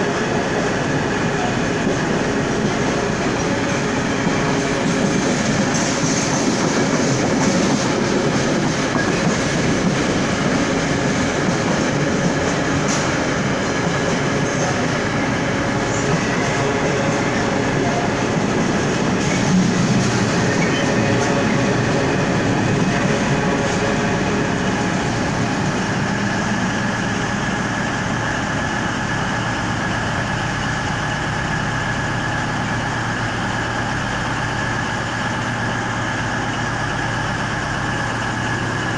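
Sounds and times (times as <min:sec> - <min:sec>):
diesel train engines humming: 0:00.0 - 0:38.9
freight train rolling on rails: 0:00.0 - 0:38.9.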